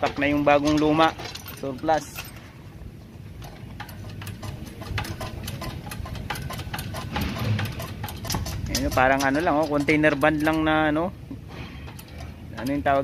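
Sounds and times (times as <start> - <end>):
lifting chain clinking and rattling: 0.0 - 13.0.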